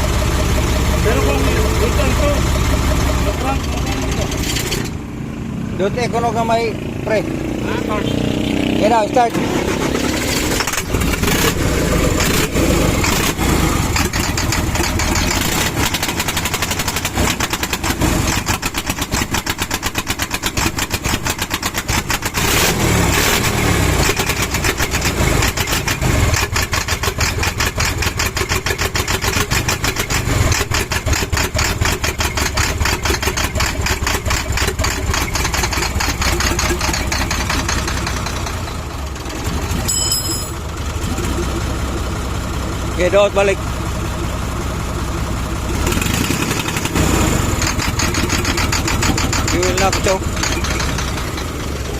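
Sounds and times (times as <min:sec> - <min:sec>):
diesel engine cranked by starter: 0:00.0 - 0:05.2, 0:08.6 - 0:51.9.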